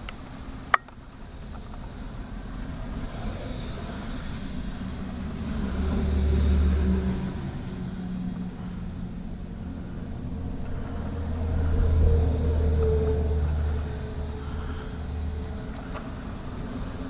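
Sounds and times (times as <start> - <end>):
low rumble of passing vehicles: 0.0 - 17.0.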